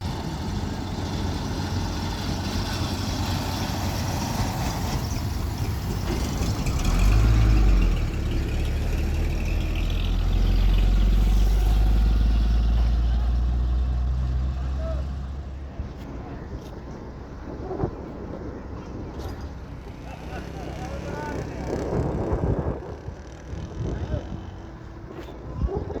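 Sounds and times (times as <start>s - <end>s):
heavy vehicle engine rumbling: 0.0s - 26.0s.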